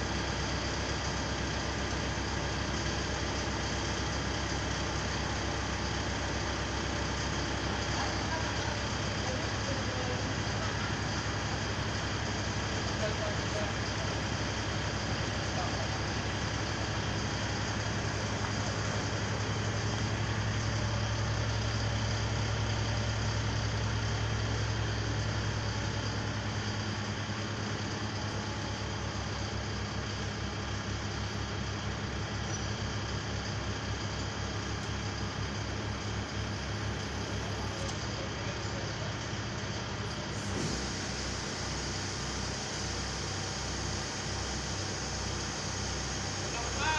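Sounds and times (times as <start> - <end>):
truck engine humming: 0.0 - 46.9.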